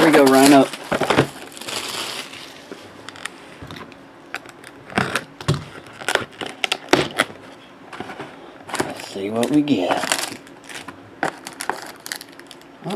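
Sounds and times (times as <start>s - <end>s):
packaging rustling: 0.0s - 12.9s.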